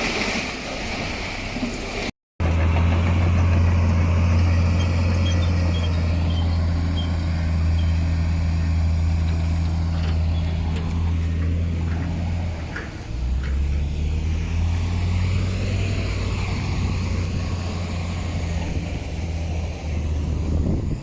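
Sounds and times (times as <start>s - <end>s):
heavy diesel engine droning: 2.4s - 21.0s.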